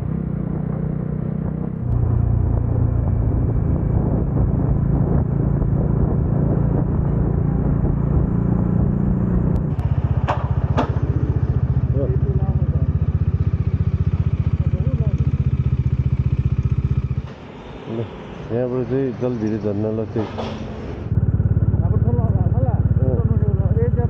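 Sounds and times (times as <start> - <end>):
motorcycle engine running: 0.0 - 17.8, 20.8 - 24.0.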